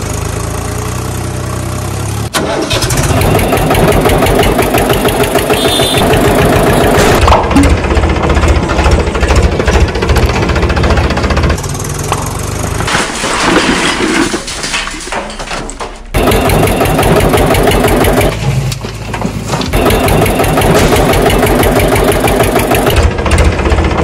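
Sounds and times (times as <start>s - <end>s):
diesel tractor engine running: 0.0s - 13.0s, 15.7s - 24.0s.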